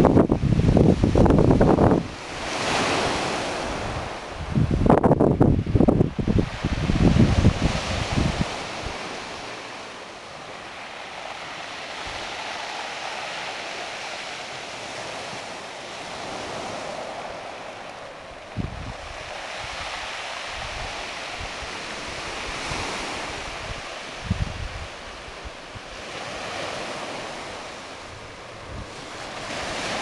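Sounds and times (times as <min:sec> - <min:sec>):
surf washing on cobbles: 0:00.0 - 0:30.0
wind buffeting microphone: 0:00.0 - 0:30.0.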